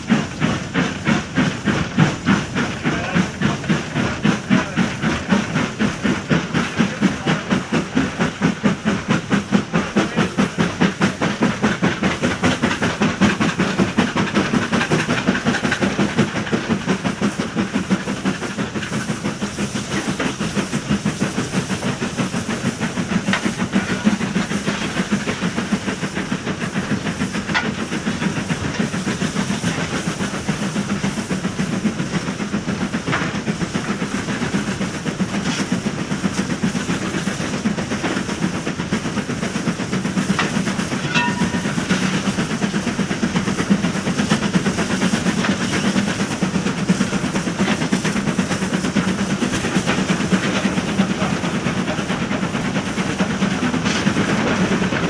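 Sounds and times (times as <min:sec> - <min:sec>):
clatter and hiss: 0:00.0 - 0:55.0
steam train rumble: 0:00.0 - 0:55.0.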